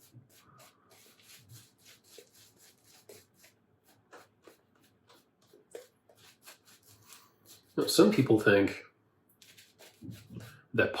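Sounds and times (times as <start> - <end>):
razor rubbing on lathered skin: 0.0 - 8.3, 9.4 - 10.5.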